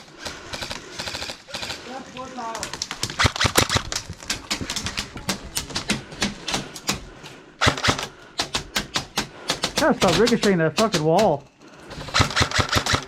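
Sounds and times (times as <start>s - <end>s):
airsoft guns firing: 0.0s - 2.0s, 2.6s - 13.0s.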